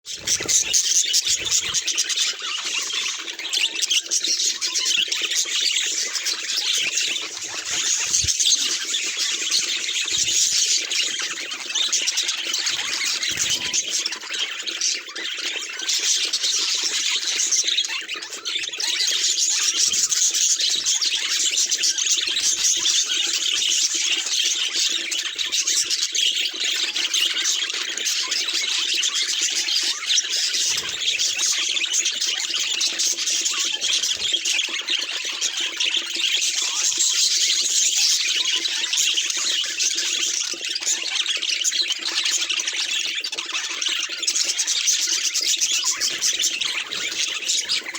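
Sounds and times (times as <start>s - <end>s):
budgerigars chattering: 0.1s - 47.9s.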